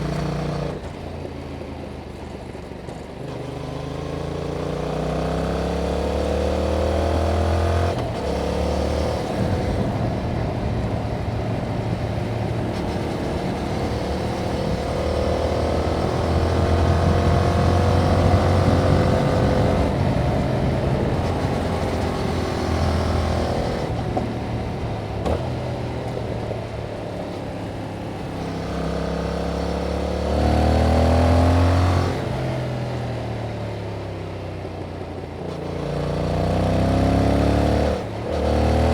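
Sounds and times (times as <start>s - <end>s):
motorcycle engine revving: 0.0s - 1.3s, 3.0s - 38.9s.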